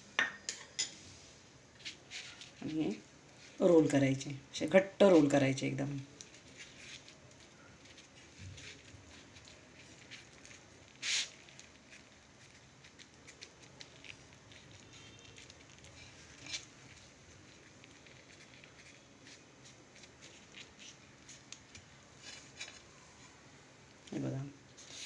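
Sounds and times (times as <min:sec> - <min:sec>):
flatbread rustling and crackling: 0:00.8 - 0:25.0.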